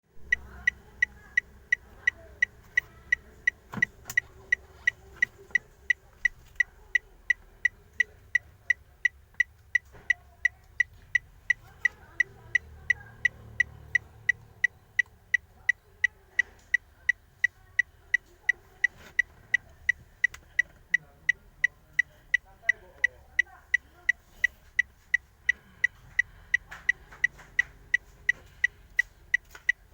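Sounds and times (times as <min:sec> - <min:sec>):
turn signal ticking: 0:00.1 - 0:29.9.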